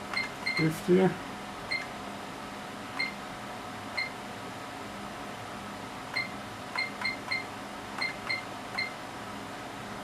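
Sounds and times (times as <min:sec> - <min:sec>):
steady instrument hum: 0:00.0 - 0:10.0.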